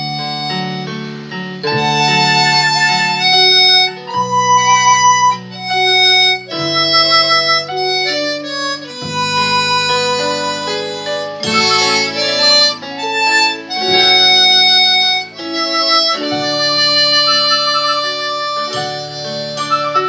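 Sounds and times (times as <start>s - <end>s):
harmonica melody: 0.0s - 20.0s.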